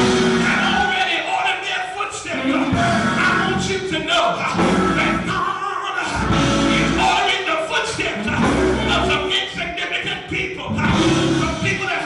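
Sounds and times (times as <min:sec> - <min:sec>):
gospel singing with instruments: 0:00.0 - 0:12.0.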